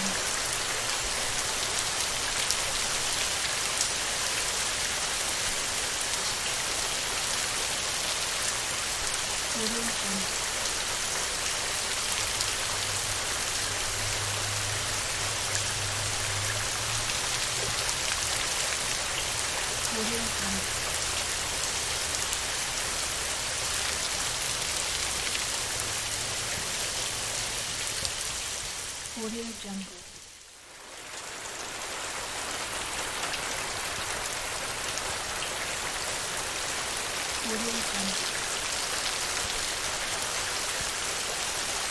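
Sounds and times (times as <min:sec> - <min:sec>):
heavy rain on a tin roof: 0:00.0 - 0:41.9.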